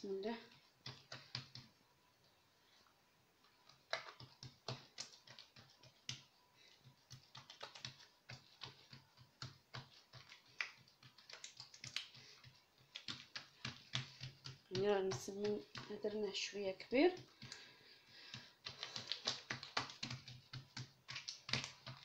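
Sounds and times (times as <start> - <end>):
fingertips patting dough on countertop: 0.4 - 1.8, 3.4 - 22.0.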